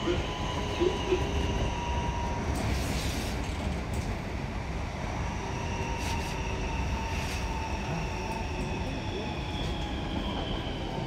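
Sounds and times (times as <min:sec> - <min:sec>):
train whining tones: 0:00.0 - 0:03.6, 0:05.1 - 0:11.0
train wheels rumbling on rail: 0:00.0 - 0:11.0.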